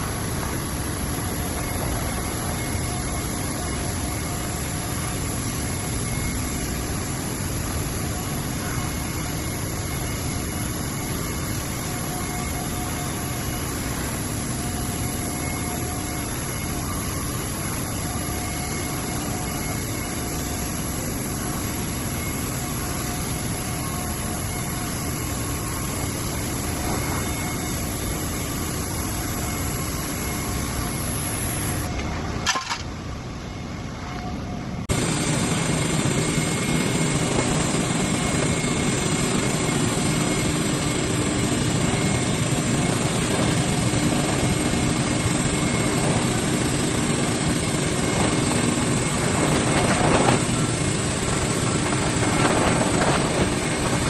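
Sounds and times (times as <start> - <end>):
machinery drone: 0.0 - 54.0.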